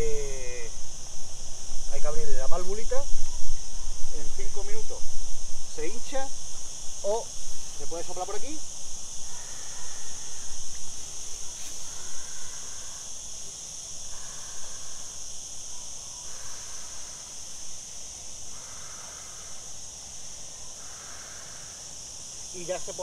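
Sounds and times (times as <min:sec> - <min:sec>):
high drone of insects: 0:00.0 - 0:23.0.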